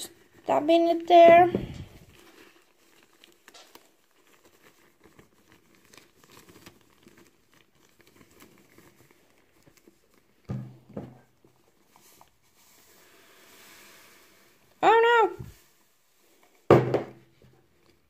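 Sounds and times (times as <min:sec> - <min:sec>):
nylon stocking rustling: 0:00.0 - 0:16.6.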